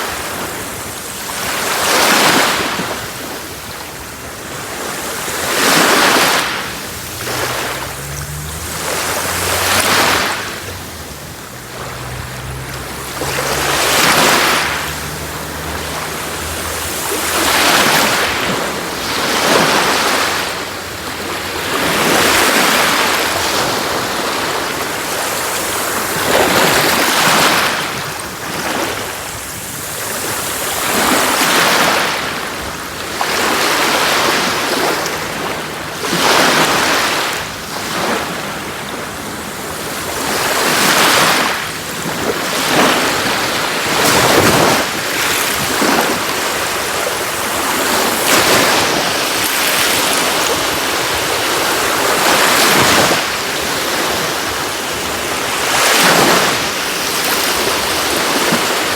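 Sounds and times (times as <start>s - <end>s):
sea waves breaking on shore: 0.0s - 58.9s.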